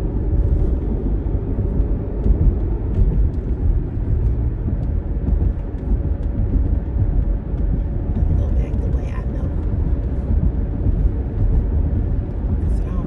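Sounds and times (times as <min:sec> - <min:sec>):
engine and road noise rumble: 0:00.0 - 0:13.0.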